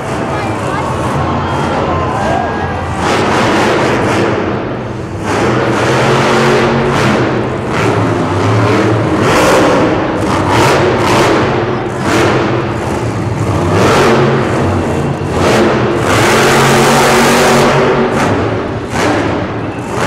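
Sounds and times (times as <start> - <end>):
monster truck engines revving: 0.0 - 20.0.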